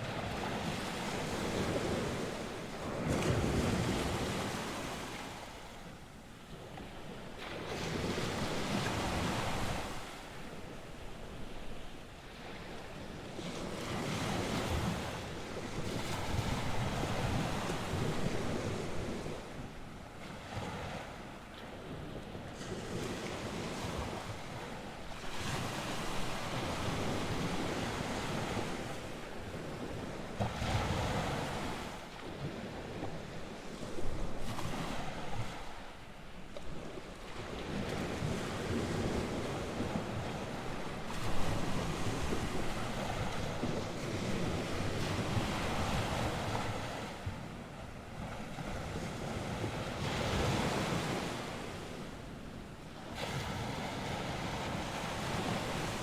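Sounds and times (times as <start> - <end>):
waves breaking on shore: 0.0 - 56.0
wind on microphone: 0.0 - 56.0.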